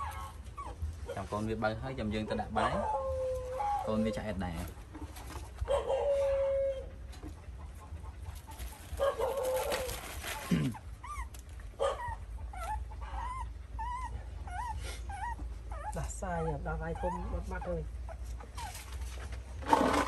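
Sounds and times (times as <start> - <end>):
puppies whining: 0.0 - 19.2.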